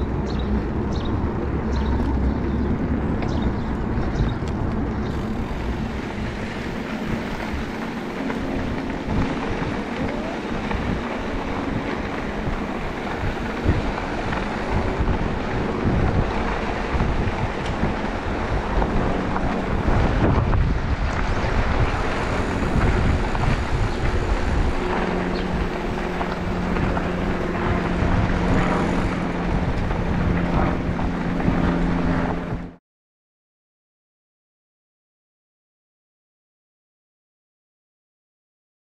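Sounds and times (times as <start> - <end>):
e-bike rolling and rattling: 0.0 - 32.8
steady low hum: 0.0 - 32.8
wind buffeting microphone: 0.0 - 32.8.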